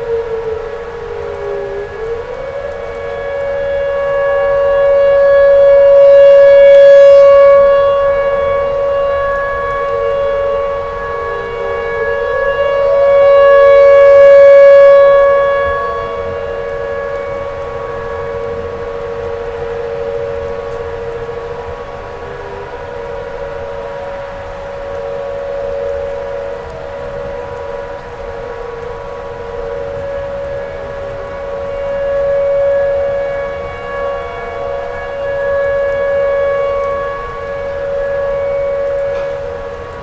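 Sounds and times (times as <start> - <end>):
tornado warning siren wailing: 0.0 - 40.0.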